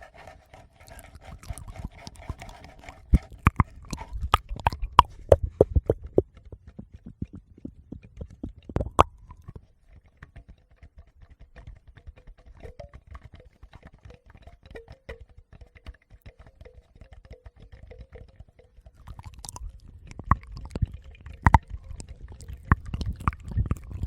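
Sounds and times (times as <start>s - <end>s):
small clicks and crackles: 0.0s - 24.0s.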